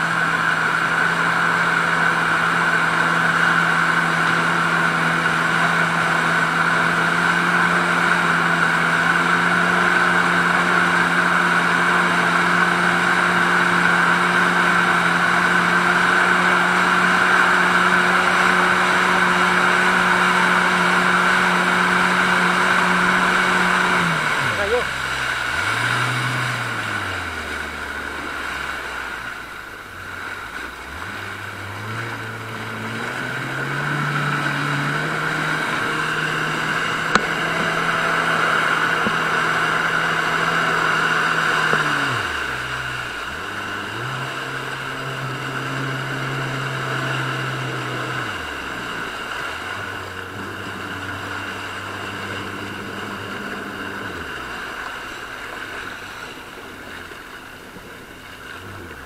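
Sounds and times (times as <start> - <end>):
motorboat engine running: 0.0 - 59.0
rushing wake water: 0.0 - 59.0.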